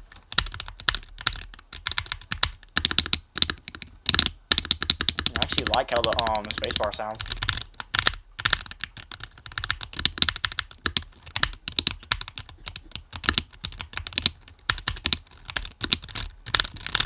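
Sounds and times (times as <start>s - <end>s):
keyboard keystroke clacks: 0.2s - 17.0s.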